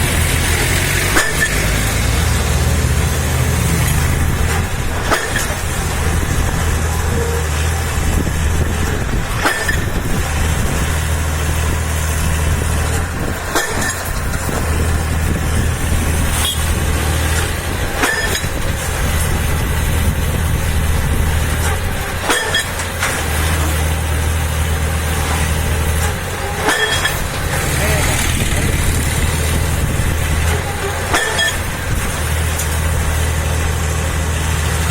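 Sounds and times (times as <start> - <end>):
heavy engine running: 0.0 - 34.9.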